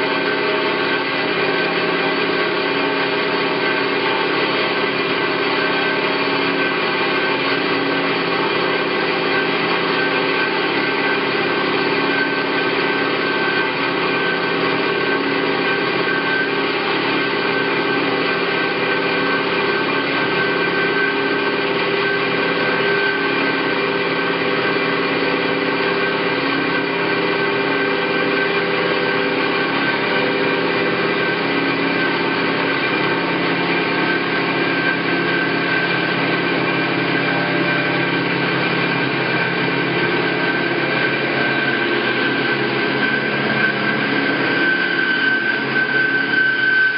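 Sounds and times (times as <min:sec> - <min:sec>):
bandsaw running: 0:00.0 - 0:46.9.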